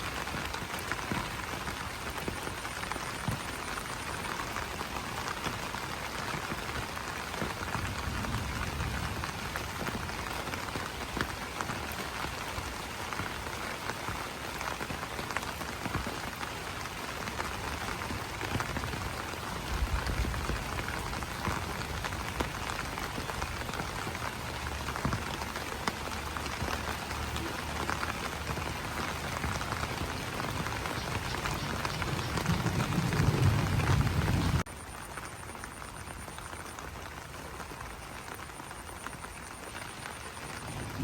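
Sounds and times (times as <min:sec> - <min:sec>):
rain pattering on leaves: 0:00.0 - 0:41.0.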